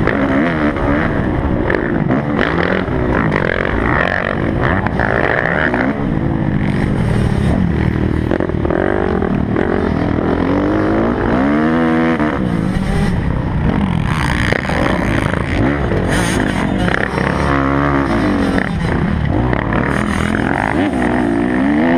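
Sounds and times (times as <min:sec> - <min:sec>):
motocross bike engine revving: 0:00.0 - 0:21.9.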